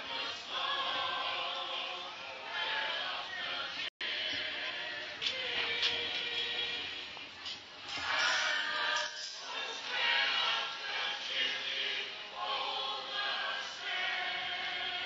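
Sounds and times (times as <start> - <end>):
choir singing: 0.0 - 7.0, 7.9 - 15.0.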